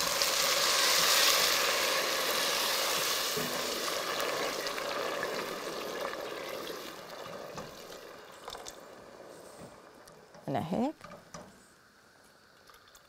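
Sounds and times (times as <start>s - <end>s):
water hissing in hot pot: 0.0s - 10.9s.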